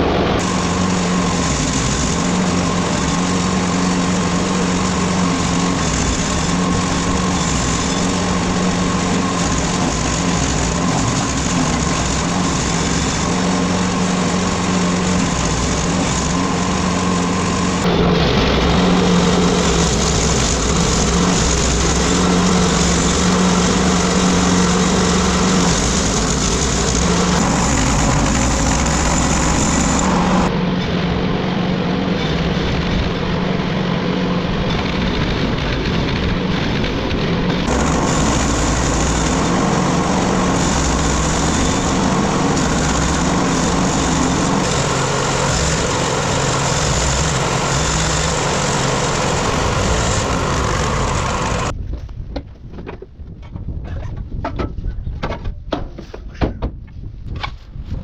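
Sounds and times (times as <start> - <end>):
wood chipper engine running: 0.0 - 51.7
dense mechanical rush: 0.0 - 51.8.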